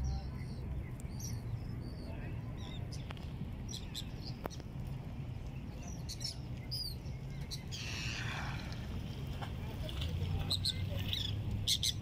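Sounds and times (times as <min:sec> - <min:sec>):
steady low rumble: 0:00.0 - 0:11.7
seabirds chirping: 0:00.0 - 0:12.0.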